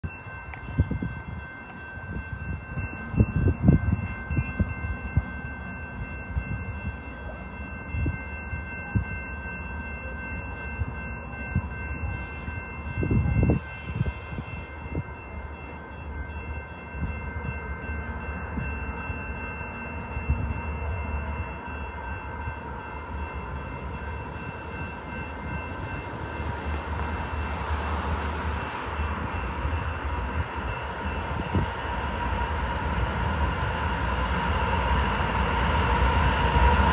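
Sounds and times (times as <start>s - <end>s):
freight train rumble: 0.0s - 36.9s.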